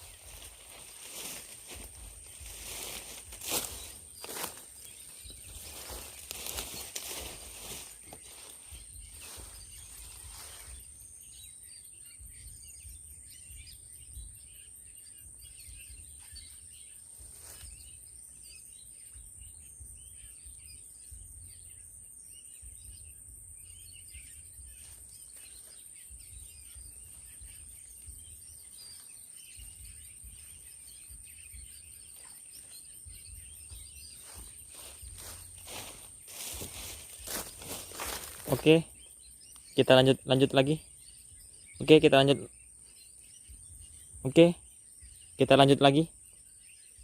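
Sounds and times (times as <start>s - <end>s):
high-pitched insect drone: 0.0s - 46.2s
bird chirps: 0.0s - 47.0s.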